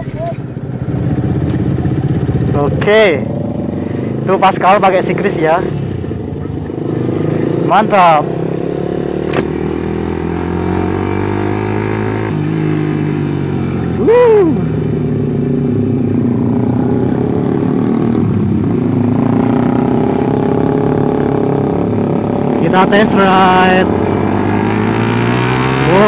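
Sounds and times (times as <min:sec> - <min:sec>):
motorcycle engine running: 0:00.0 - 0:26.0
motorcycles riding past: 0:00.0 - 0:26.0.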